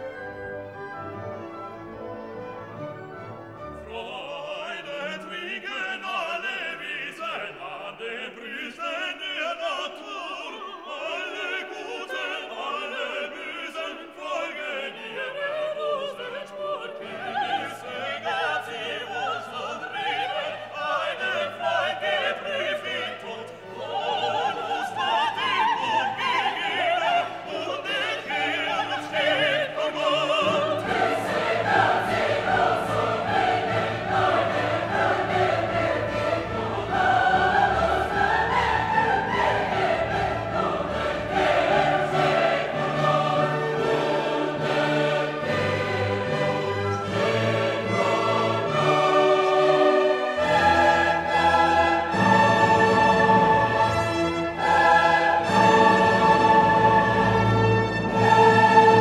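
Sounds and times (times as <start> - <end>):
orchestral accompaniment: 0.0 - 6.4, 16.6 - 59.0
group singing in harmony: 3.7 - 59.0.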